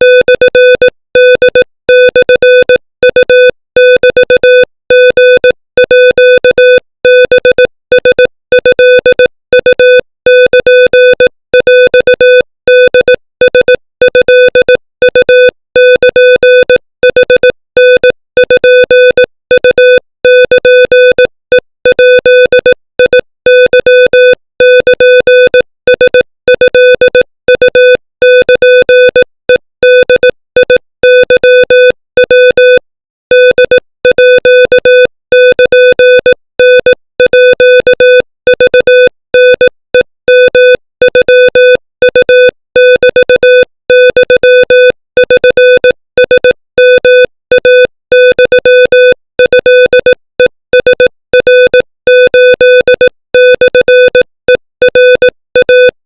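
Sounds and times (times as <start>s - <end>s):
morse code beeping: 0.0s - 56.0s.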